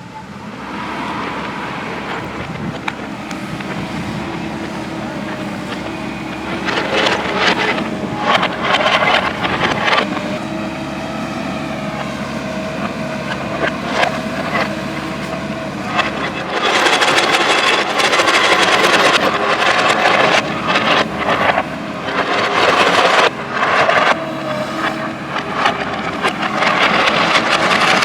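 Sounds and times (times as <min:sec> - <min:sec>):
diesel engine running: 0:00.0 - 0:28.0
engine clattering: 0:00.0 - 0:28.0.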